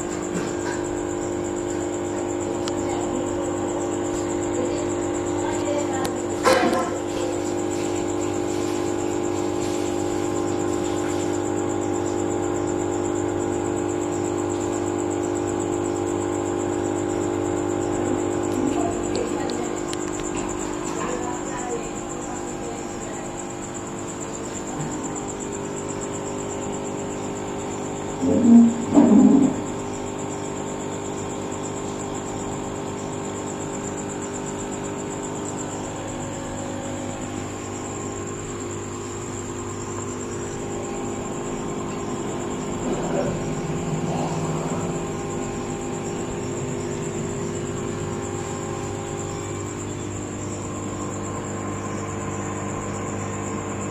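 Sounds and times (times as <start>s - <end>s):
aquarium pump humming: 0.0s - 53.9s
thin high whine: 0.0s - 53.9s.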